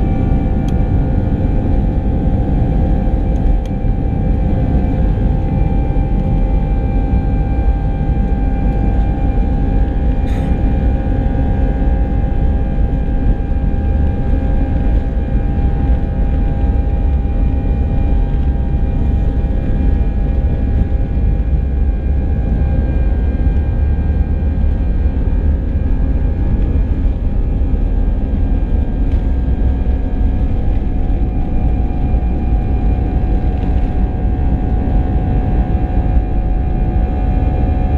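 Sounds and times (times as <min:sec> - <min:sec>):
jet engine drone in cabin: 0:00.0 - 0:37.9.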